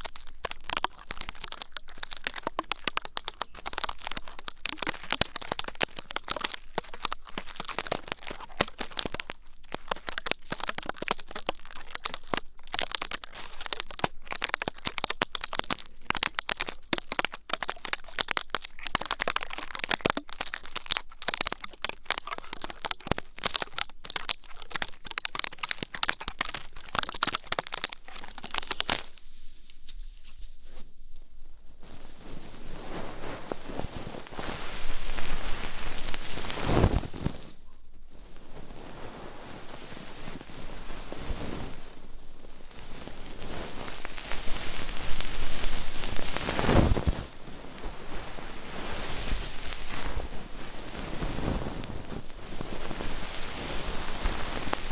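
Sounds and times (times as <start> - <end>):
crackling and scratching: 0.0 - 30.9, 31.8 - 54.9.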